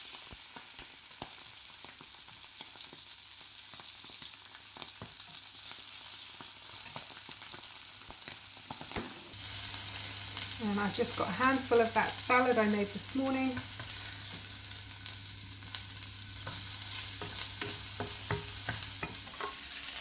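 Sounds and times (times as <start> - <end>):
oil crackling and popping: 0.0 - 20.0
sausage sizzling in a pan: 0.0 - 20.0.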